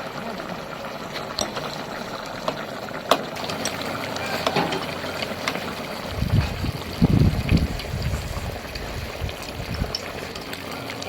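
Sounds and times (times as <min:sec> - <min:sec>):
broth bubbling: 0:00.0 - 0:11.0.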